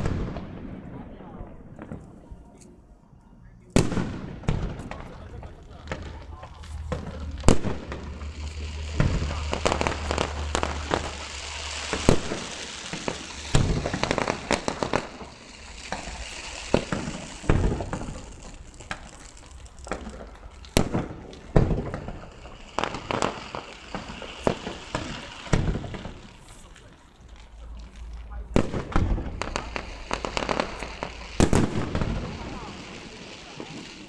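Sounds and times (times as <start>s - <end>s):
fireworks crackling: 0.0s - 2.8s, 3.8s - 34.0s
firework shells bursting: 3.8s - 34.0s.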